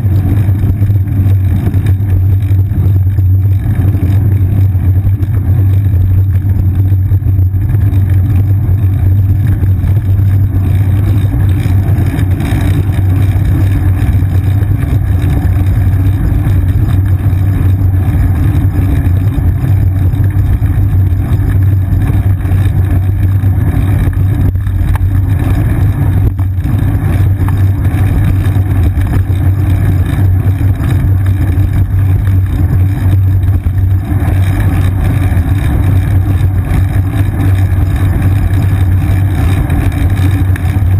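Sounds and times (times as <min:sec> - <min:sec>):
bicycle rumbling over pavement: 0:00.0 - 0:40.9.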